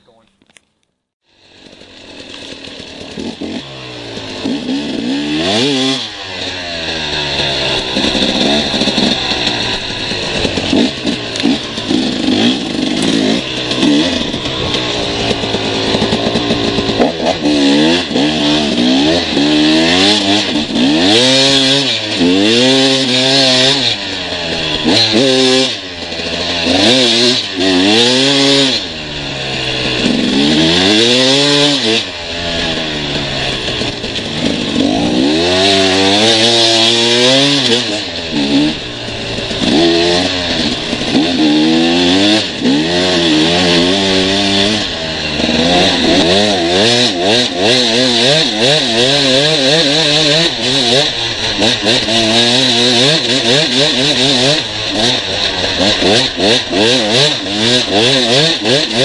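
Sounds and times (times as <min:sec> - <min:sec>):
motorcycle engine revving: 0:01.2 - 0:59.0.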